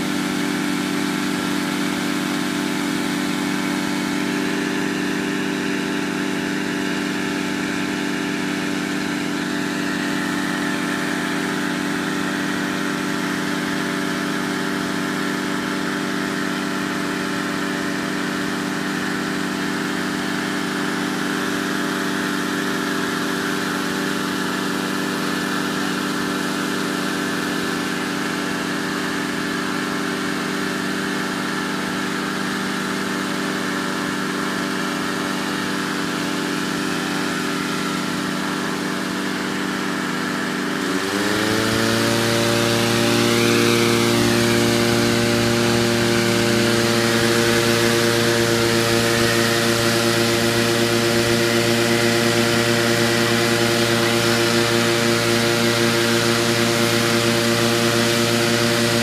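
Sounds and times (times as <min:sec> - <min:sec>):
inflator fan running steadily: 0:00.0 - 0:59.0.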